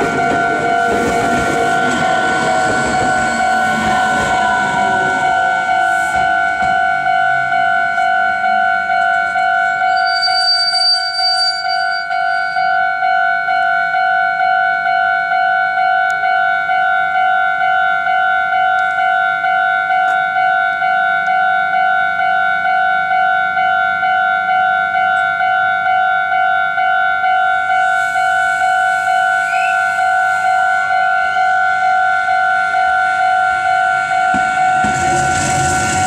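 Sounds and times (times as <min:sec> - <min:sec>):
level crossing warning bell: 0:00.0 - 0:36.0.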